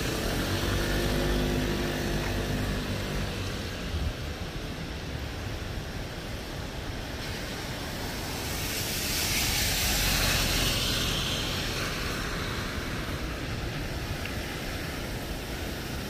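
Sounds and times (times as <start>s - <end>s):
car tyres hissing on wet road: 0.0s - 16.0s.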